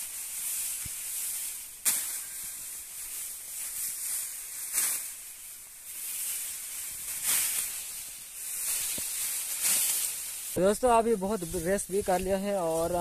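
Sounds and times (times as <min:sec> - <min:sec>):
dry straw rustling: 0:00.0 - 0:13.0
sickle cutting rice stalks: 0:00.0 - 0:13.0.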